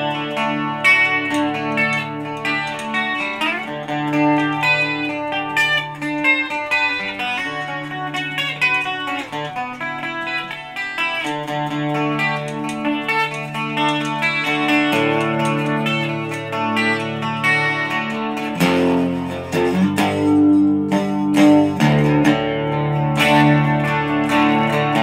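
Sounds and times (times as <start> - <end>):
electric guitar lead lines: 0.0 - 25.0.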